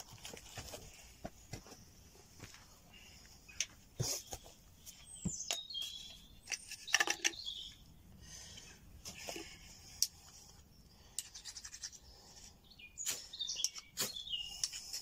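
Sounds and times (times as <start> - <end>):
wild birds calling: 0.0 - 15.0.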